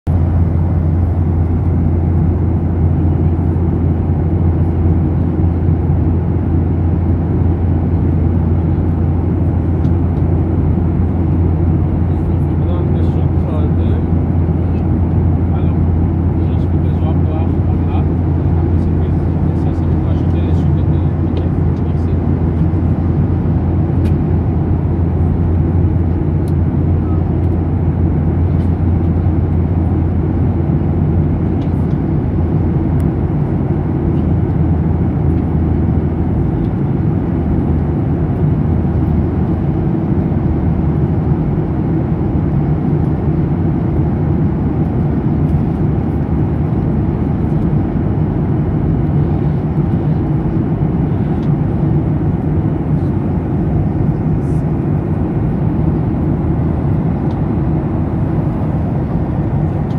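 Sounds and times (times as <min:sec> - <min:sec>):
jet airliner cabin drone: 0:00.1 - 0:59.9.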